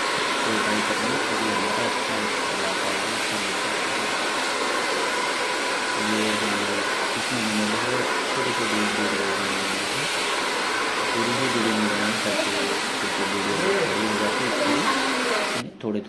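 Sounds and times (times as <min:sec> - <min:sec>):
hair dryer blowing: 0:00.0 - 0:15.6.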